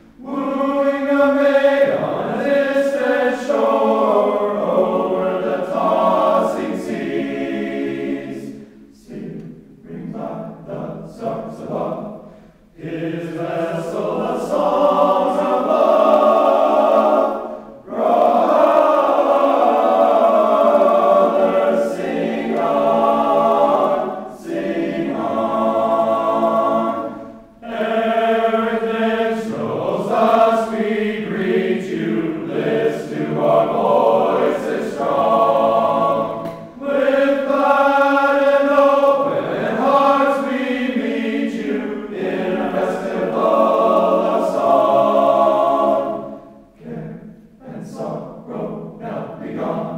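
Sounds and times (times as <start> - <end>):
men singing a hymn a cappella: 0.1 - 49.9.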